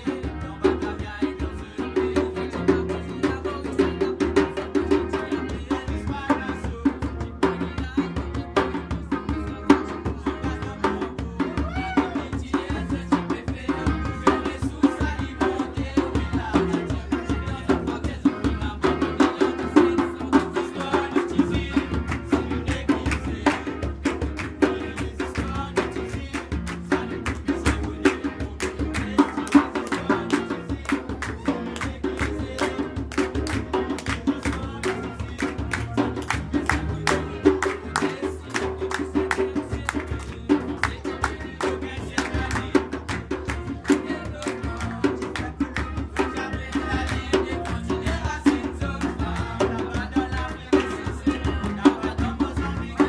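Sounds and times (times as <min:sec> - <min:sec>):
electric guitar: 0:00.0 - 0:53.0
hand-beaten frame drums: 0:00.0 - 0:53.0
young male voices singing: 0:00.0 - 0:53.0.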